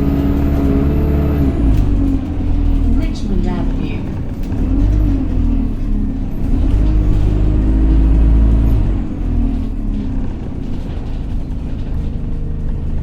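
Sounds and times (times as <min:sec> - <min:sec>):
diesel bus engine rumbling: 0:00.0 - 0:13.0.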